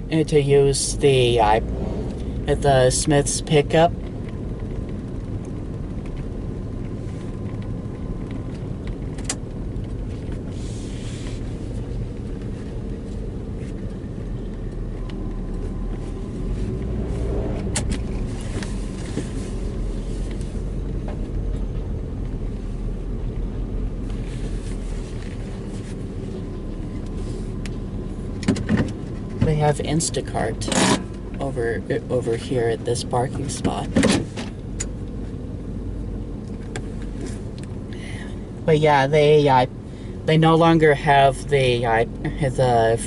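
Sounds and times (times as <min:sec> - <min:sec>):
car engine rumble: 0:00.0 - 0:43.0
road noise: 0:00.0 - 0:43.0.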